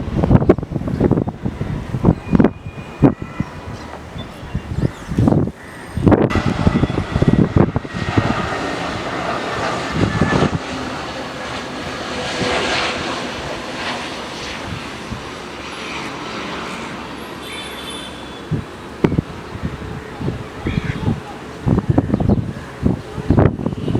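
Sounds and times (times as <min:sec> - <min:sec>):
wind buffeting microphone: 0:00.0 - 0:17.3, 0:18.4 - 0:23.9
jet engines rushing: 0:00.0 - 0:23.9.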